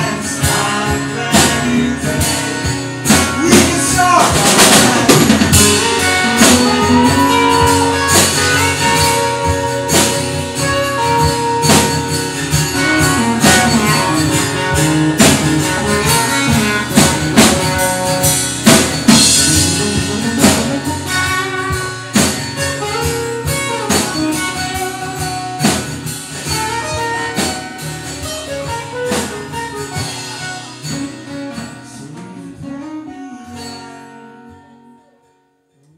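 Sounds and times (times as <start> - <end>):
drum kit beat: 0.0 - 32.8
acoustic guitars: 0.0 - 35.9.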